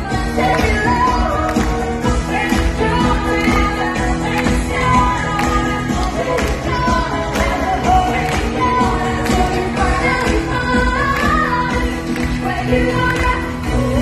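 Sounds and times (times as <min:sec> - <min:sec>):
upbeat pop song with band: 0:00.0 - 0:14.0.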